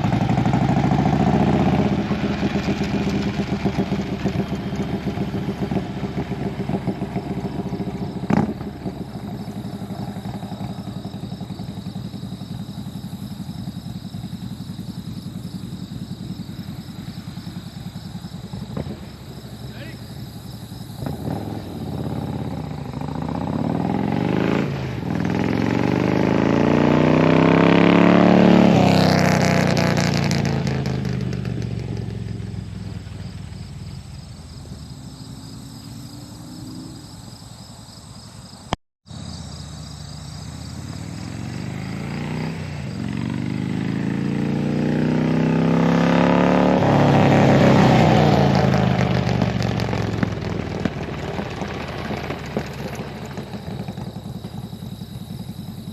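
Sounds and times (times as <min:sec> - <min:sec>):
motorcycle riding by: 0:00.0 - 0:38.5, 0:39.1 - 0:55.9.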